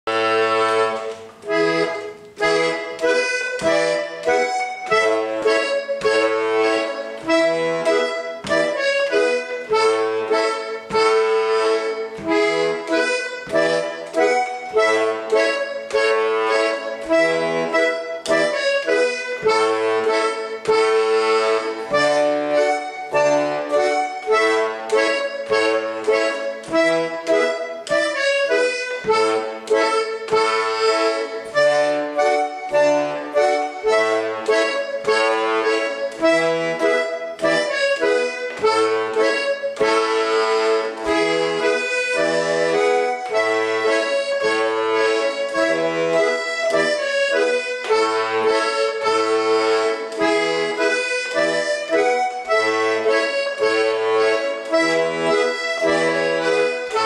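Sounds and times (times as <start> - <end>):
button accordion folk dance tune: 0.0 - 57.0.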